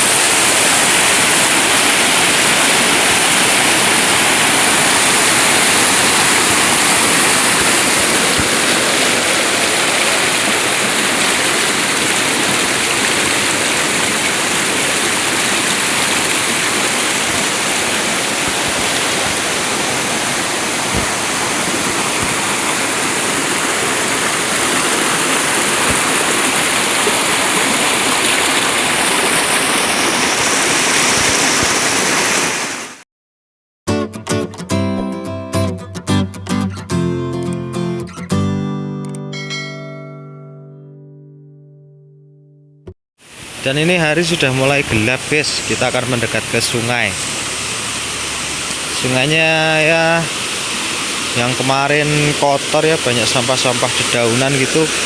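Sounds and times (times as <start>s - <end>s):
stream rushing: 0.0s - 33.0s, 43.2s - 55.0s.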